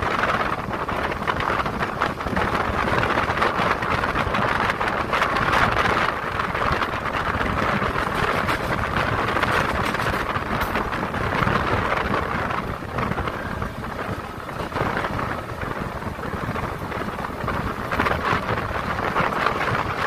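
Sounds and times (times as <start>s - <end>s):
train wheels rumbling on rails: 0.0s - 20.0s
wind buffeting microphone: 0.0s - 20.0s.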